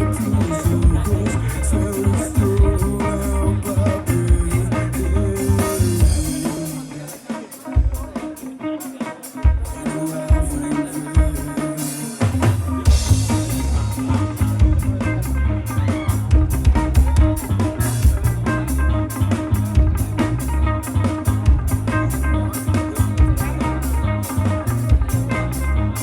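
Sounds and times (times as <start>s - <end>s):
rock band instrumental: 0.0s - 26.0s.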